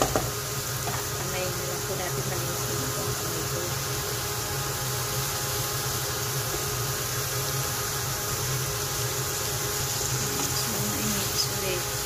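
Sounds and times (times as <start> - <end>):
chicken and onions frying: 0.0 - 12.0
fan hum: 0.0 - 12.0.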